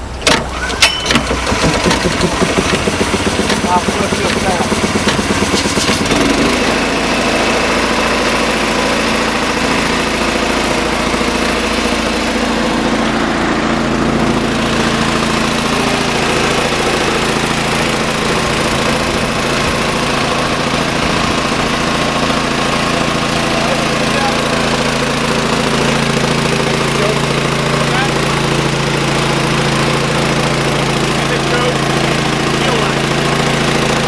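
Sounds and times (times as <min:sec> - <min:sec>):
small gasoline engine running: 0:00.0 - 0:34.0.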